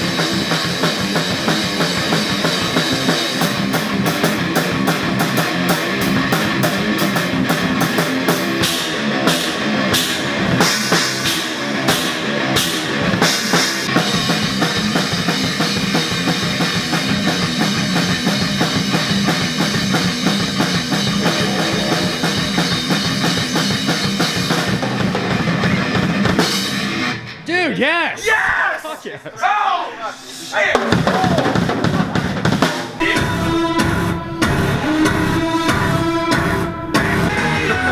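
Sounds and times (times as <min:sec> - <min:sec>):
drum and cymbal hits: 0:00.0 - 0:27.2, 0:30.2 - 0:37.9
rock band playing: 0:00.0 - 0:27.8, 0:30.7 - 0:37.9.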